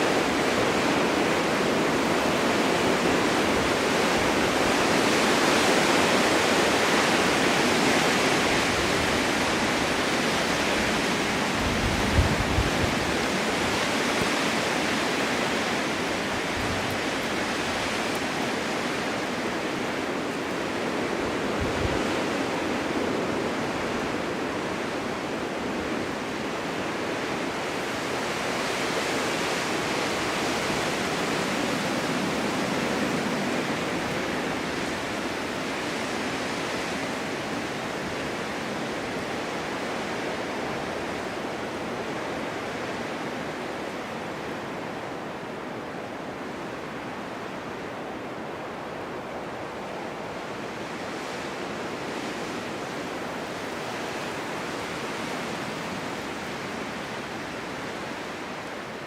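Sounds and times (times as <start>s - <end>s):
snowstorm wind blowing: 0.0s - 59.0s.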